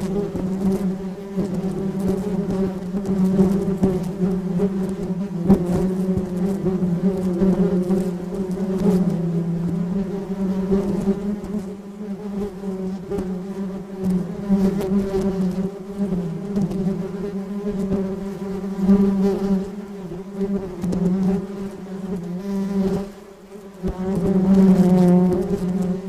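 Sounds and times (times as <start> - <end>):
bee buzzing in flight: 0.0 - 26.0.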